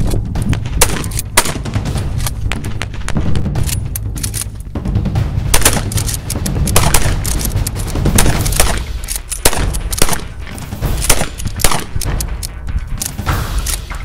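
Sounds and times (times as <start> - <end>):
shotguns firing: 0.5 - 4.0, 5.5 - 13.9.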